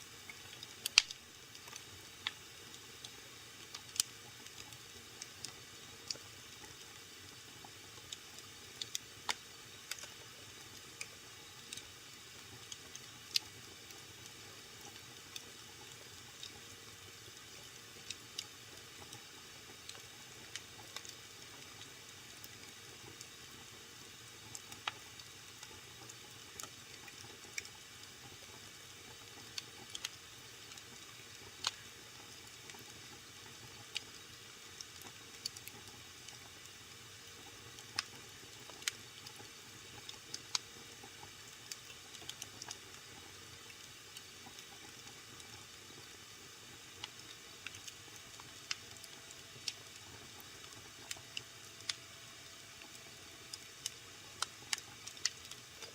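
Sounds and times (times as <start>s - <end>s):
wood fire crackling and popping: 0.2s - 7.0s, 7.6s - 23.3s, 24.4s - 36.7s, 37.3s - 46.2s, 46.9s - 52.0s, 52.7s - 55.9s.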